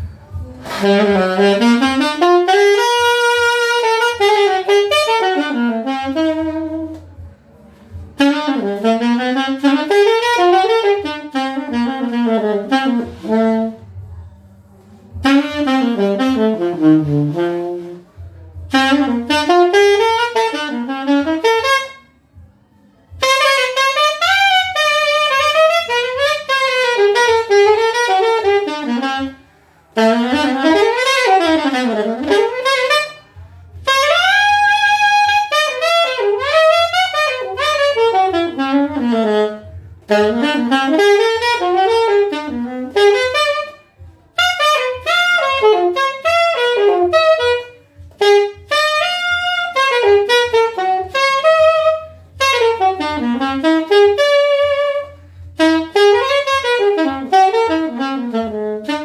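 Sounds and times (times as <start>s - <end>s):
saxophone playing fast jazz runs: 0.3s - 7.1s, 7.9s - 14.0s, 15.1s - 22.2s, 23.1s - 59.0s.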